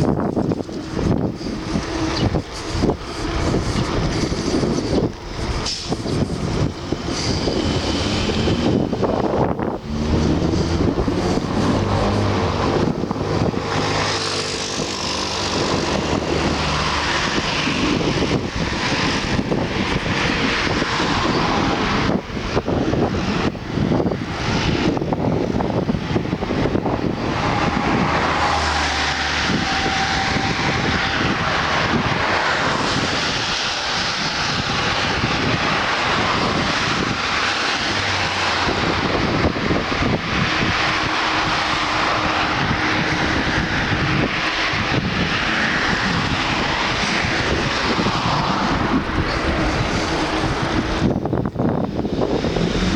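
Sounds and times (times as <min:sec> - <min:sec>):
low engine hum: 0:00.0 - 0:52.9
wind and road noise: 0:00.0 - 0:52.9.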